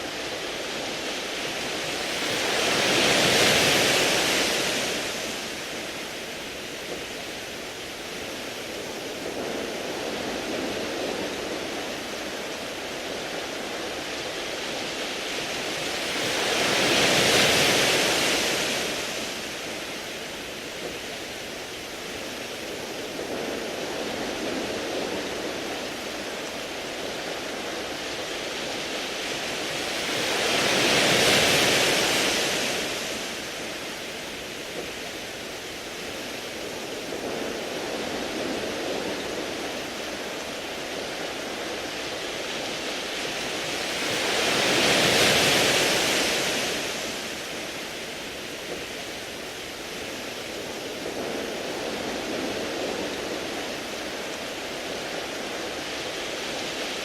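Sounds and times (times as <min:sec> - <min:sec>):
waves washing onto pebbles: 0:00.0 - 0:57.0.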